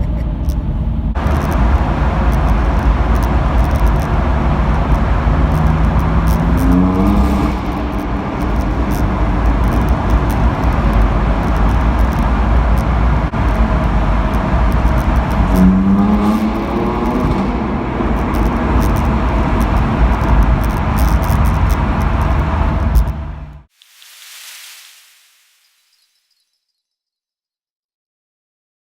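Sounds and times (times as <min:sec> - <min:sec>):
car engine at speed: 0:00.0 - 0:23.7
road noise: 0:00.0 - 0:26.2.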